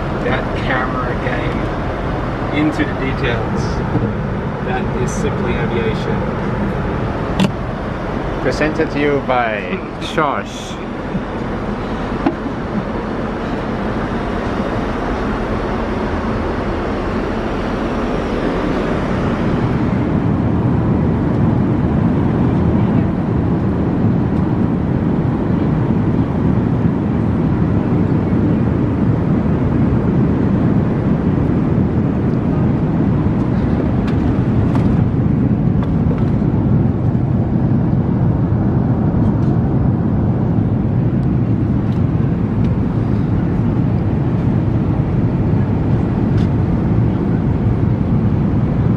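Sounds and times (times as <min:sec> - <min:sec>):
airliner cabin noise: 0:00.0 - 0:48.9.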